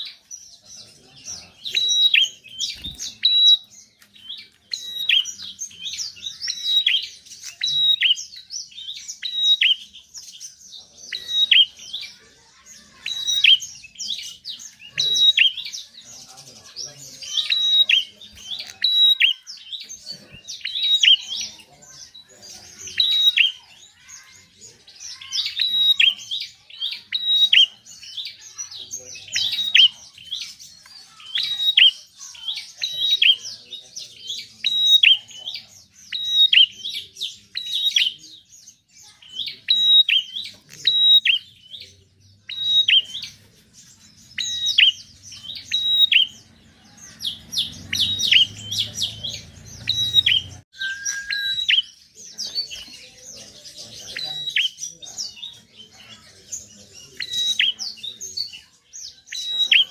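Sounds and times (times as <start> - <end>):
bird chattering song: 0.0 - 59.9.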